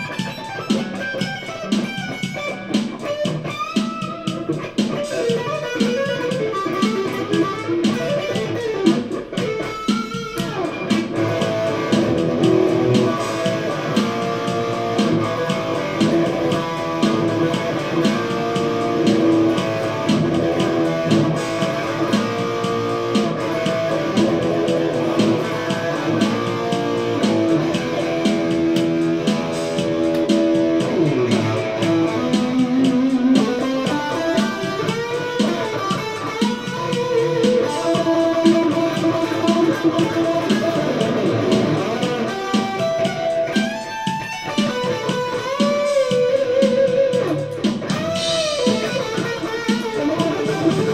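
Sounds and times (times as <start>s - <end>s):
electric guitar jam: 0.0s - 50.9s.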